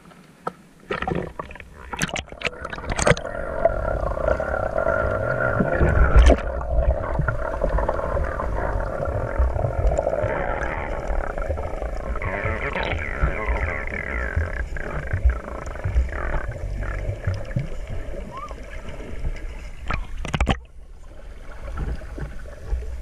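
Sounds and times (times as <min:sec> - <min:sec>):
water splashing: 0:00.0 - 0:23.0
low underwater rumble: 0:00.9 - 0:23.0
muffled underwater hum: 0:01.3 - 0:23.0.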